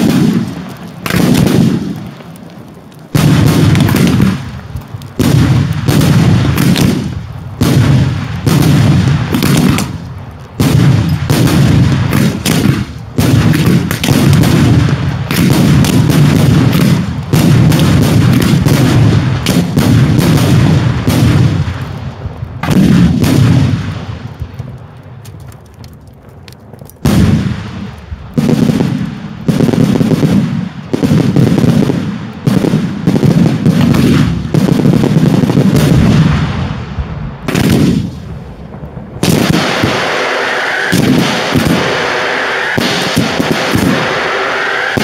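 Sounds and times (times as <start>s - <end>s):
fireworks exploding: 0.0s - 45.0s.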